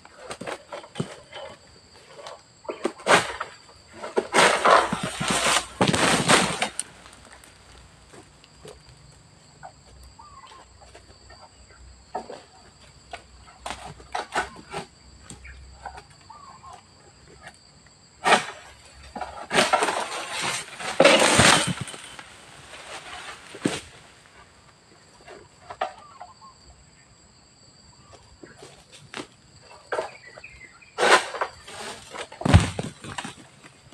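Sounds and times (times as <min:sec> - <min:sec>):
rustling and scraping in foliage: 0:00.0 - 0:17.6, 0:18.3 - 0:26.4, 0:28.0 - 0:33.9.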